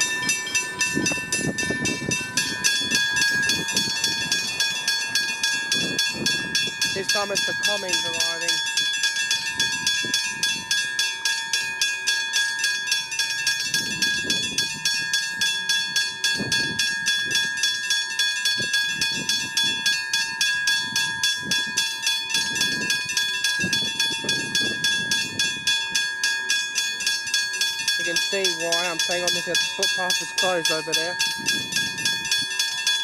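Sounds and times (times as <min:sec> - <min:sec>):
level crossing bell ringing: 0:00.0 - 0:33.0.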